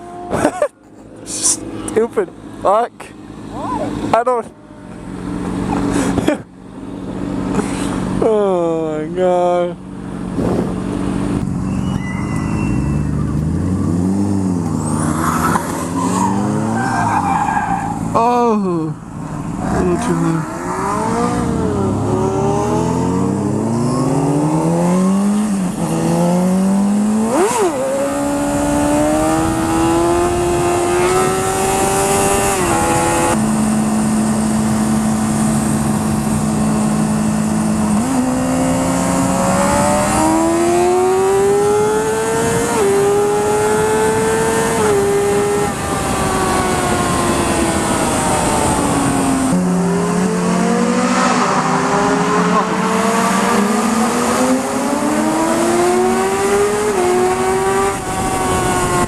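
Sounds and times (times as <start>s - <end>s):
motorcycle engine accelerating: 0.0s - 16.9s, 18.0s - 59.0s.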